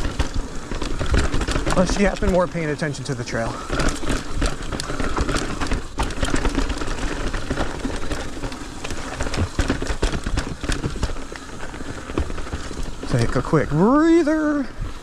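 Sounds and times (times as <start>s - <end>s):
bike clicks and rattles: 0.0s - 15.0s
tyres rumbling over dirt and rocks: 0.0s - 15.0s.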